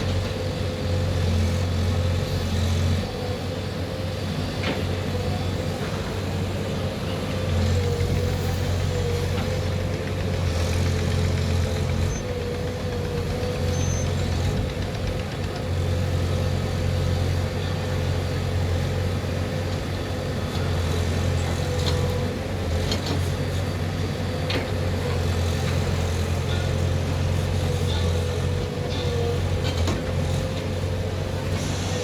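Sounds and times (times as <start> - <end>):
diesel machinery engine running: 0.0 - 32.0.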